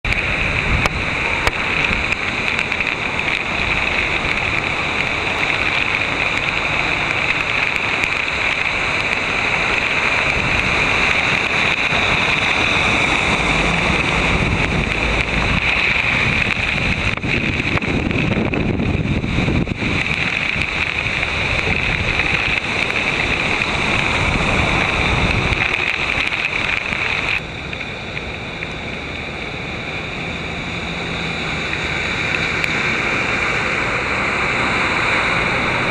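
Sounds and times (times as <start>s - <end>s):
cars driving through floodwater: 0.0s - 35.9s
heavy rain: 0.0s - 35.9s
wind buffeting microphone: 0.0s - 35.9s.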